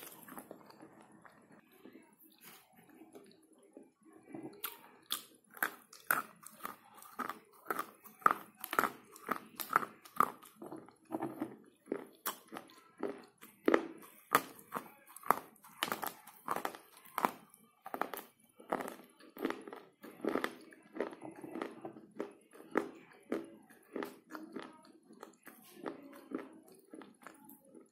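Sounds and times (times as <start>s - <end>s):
chewing dry crunches: 0.0s - 1.6s, 4.3s - 27.9s.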